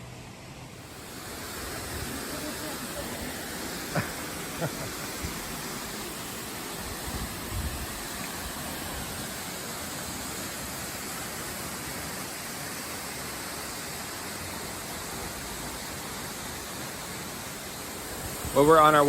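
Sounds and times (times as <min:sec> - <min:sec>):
waterfall rushing: 0:00.8 - 0:19.0.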